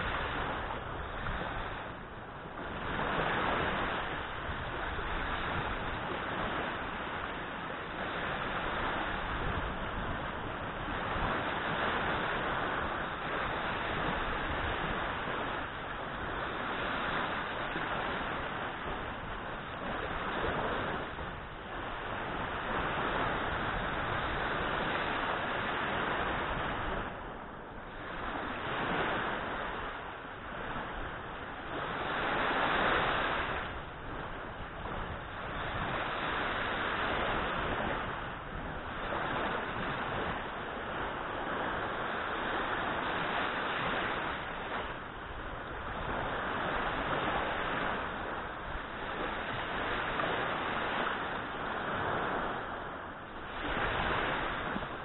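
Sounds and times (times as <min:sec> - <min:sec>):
small waves breaking on sand: 0:00.0 - 0:55.0
wind on microphone: 0:00.0 - 0:55.0.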